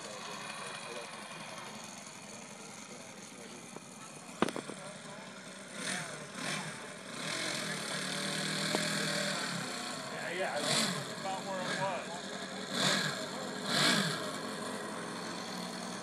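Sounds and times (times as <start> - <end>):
model airplane engine idling: 0.0 - 16.0.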